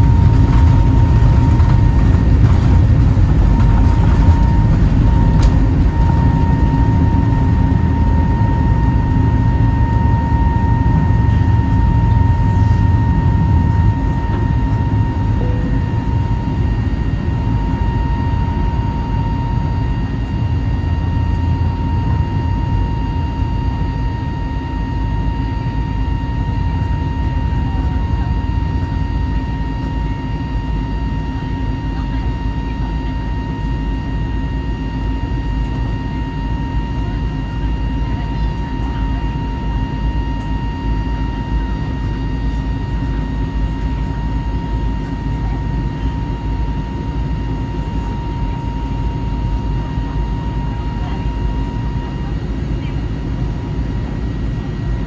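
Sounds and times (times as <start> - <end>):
high fan whine: 0.0 - 55.0
jet engine rumble: 0.0 - 55.0.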